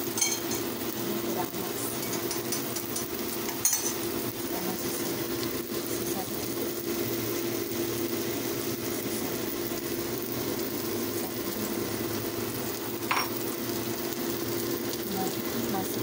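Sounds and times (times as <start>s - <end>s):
omelette sizzling in oil: 0.0s - 16.0s.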